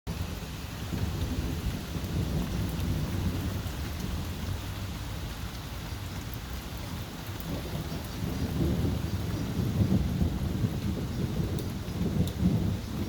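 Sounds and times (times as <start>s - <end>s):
rain hissing: 0.1s - 13.0s
thunder rumbling: 0.1s - 13.0s.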